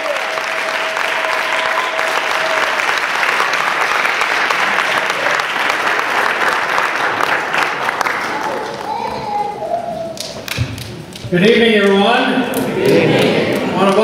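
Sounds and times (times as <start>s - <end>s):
congregation applauding: 0.0s - 9.1s, 11.8s - 14.0s.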